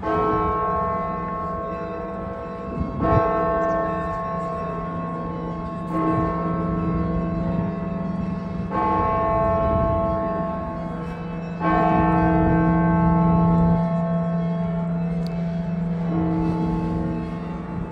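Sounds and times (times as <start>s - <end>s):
church bells ringing: 0.0s - 17.9s
low hum of large bell: 0.0s - 17.9s.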